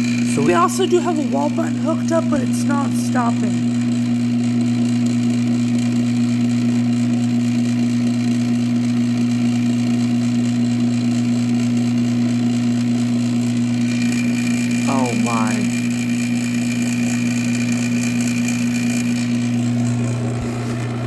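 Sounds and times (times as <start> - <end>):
garage door opener motor humming: 0.0 - 21.0.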